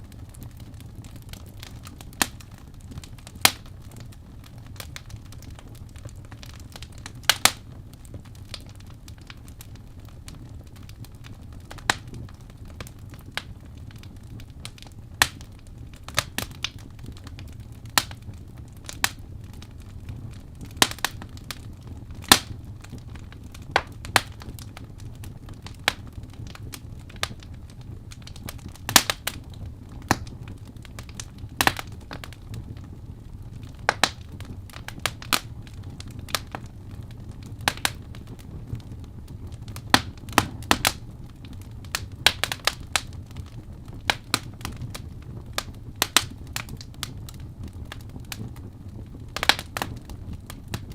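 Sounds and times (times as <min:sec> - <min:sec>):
logs crackling and popping: 0:00.0 - 0:50.9
low rumble of flames: 0:00.0 - 0:50.9.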